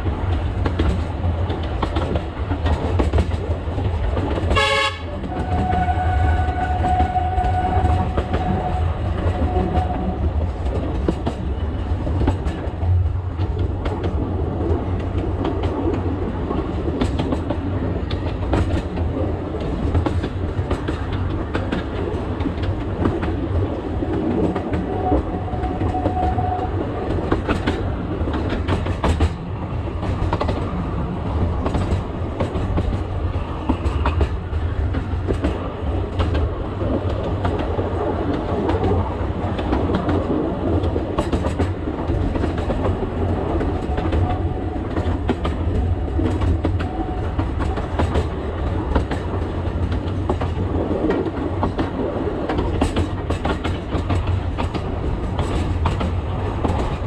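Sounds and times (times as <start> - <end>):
train low rumble: 0.0 - 57.0
train wheels clicking and clacking: 0.0 - 57.0.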